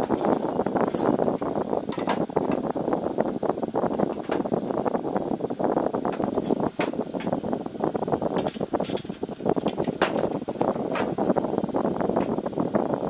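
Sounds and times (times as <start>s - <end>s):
steady rushing background noise: 0.0s - 13.0s.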